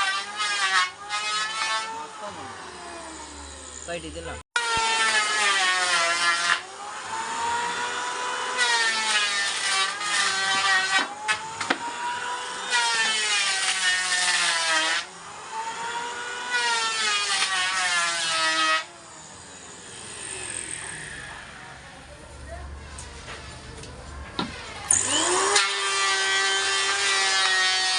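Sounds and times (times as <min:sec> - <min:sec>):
power tool cutting wood: 0:00.0 - 0:22.1, 0:24.4 - 0:27.9.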